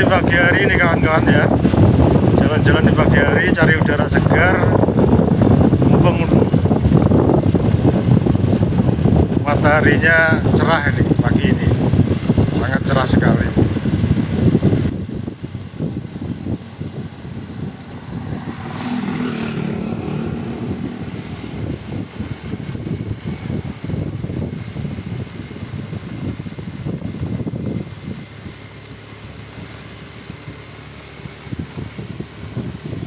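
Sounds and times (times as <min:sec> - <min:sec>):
wind rumbling on microphone: 0:00.0 - 0:33.0
vehicle engine running: 0:00.7 - 0:33.0.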